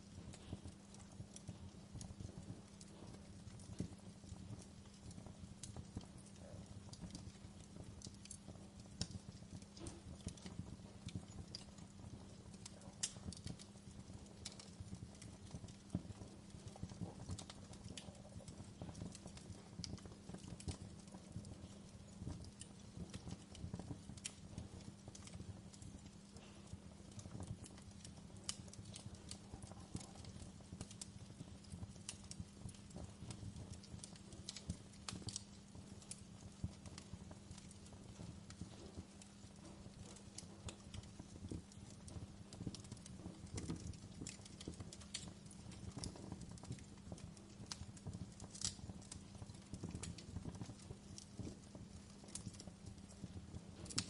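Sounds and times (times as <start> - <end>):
wood crackling and popping: 0.0 - 54.0.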